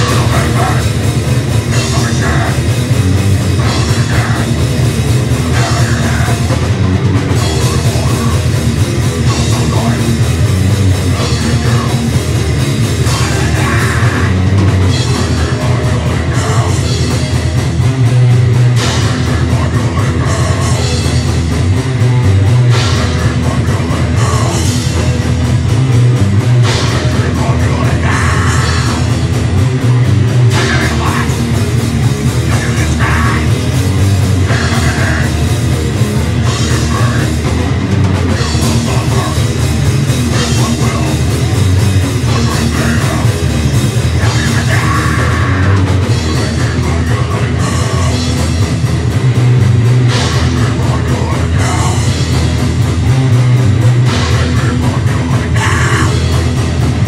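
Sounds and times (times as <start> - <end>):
electric guitar: 0.0 - 57.0
pounding drum kit: 0.0 - 57.0.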